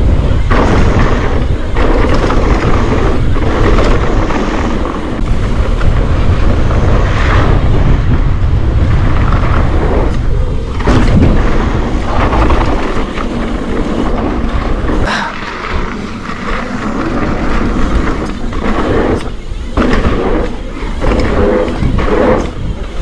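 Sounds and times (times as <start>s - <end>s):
bike knocks and rattles: 0.0s - 7.5s, 9.1s - 23.0s
tyre and wind rush: 0.0s - 23.0s.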